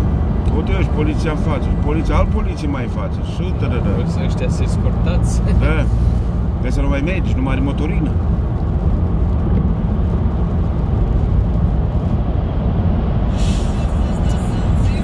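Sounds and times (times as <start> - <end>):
car engine rumble: 0.0 - 15.0
tyre noise on road: 0.0 - 15.0.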